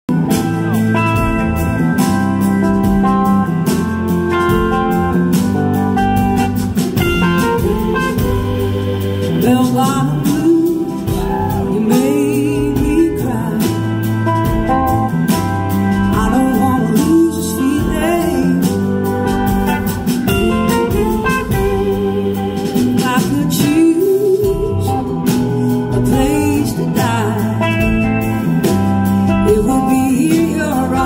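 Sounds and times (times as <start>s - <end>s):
bass guitar: 0.0s - 31.0s
drums with steady beat: 0.1s - 31.0s
electric guitars: 0.1s - 31.0s
sliding guitar lines: 0.1s - 31.0s.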